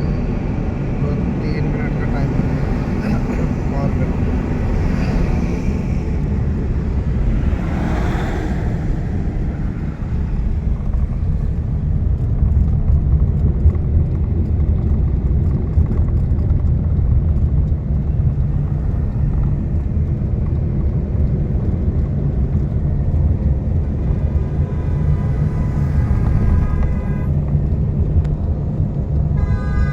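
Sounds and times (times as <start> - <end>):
vehicle road and engine rumble: 0.0 - 29.9.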